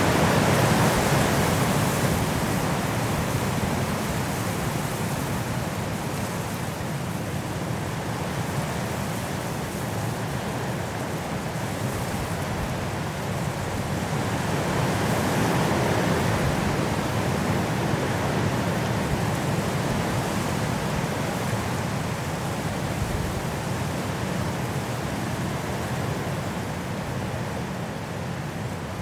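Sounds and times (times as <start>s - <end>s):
high wind through trees: 0.0s - 29.0s.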